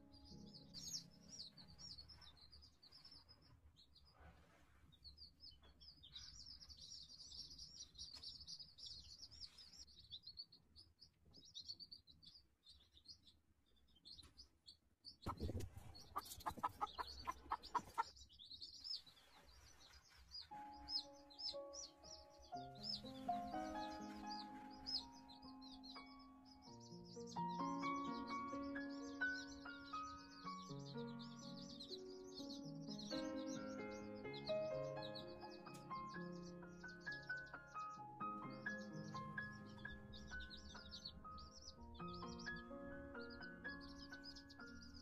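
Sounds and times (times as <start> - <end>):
chicks peeping: 0.0 - 45.0.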